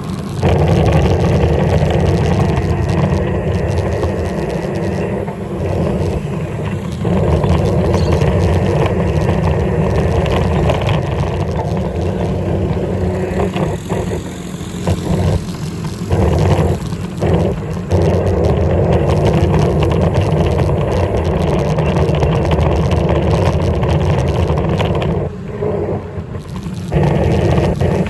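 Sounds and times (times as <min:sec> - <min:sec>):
bike riding on road rumble: 0:00.0 - 0:28.0.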